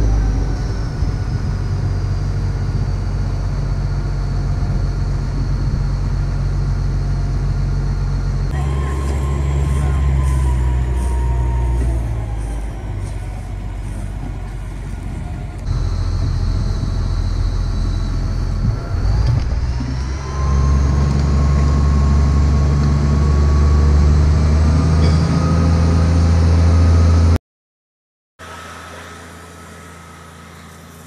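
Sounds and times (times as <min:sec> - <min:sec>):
boat engine revving: 0:00.0 - 0:27.4
rising engine whine: 0:00.0 - 0:27.4, 0:28.4 - 0:31.0.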